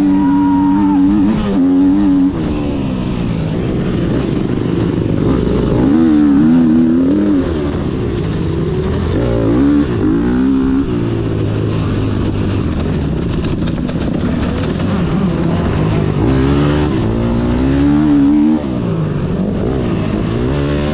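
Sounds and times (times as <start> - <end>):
motocross bike engine revving: 0.0 - 20.9.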